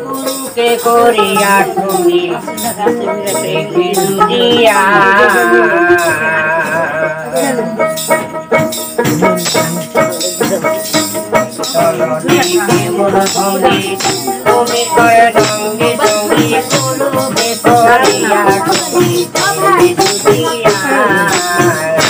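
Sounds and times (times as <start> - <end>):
jingle percussion jingling: 0.0 - 22.0
plucked lute melody: 0.0 - 22.0.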